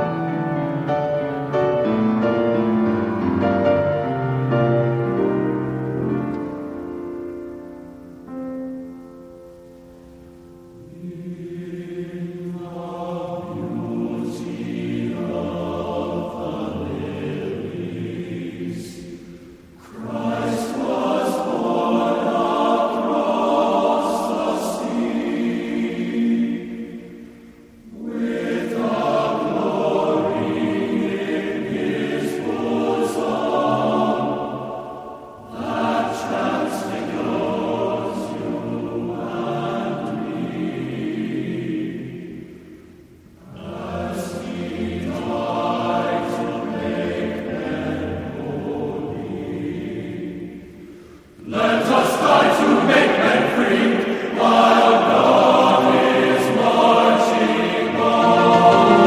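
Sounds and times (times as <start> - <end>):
choir singing: 0.0 - 8.4, 10.0 - 59.0.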